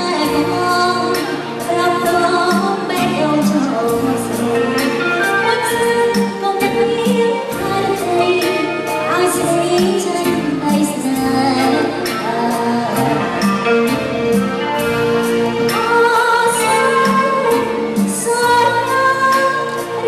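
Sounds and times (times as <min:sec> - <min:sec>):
backing music with steady beat: 0:00.0 - 0:20.0
woman singing: 0:00.0 - 0:20.0.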